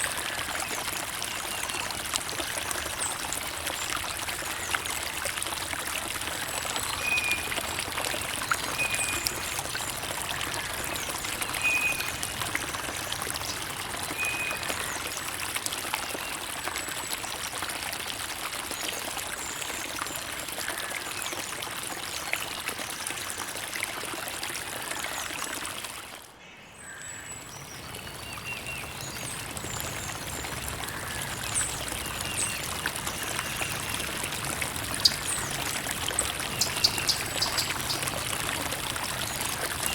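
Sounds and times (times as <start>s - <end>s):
creek water babbling over stones: 0.0s - 39.9s.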